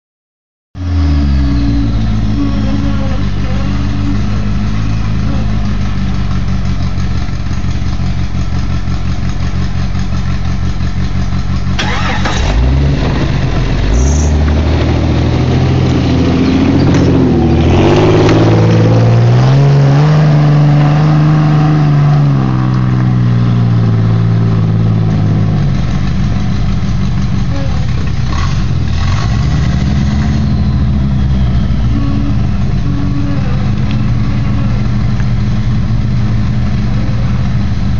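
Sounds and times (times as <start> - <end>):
engine idling and revving: 0.7 - 37.9.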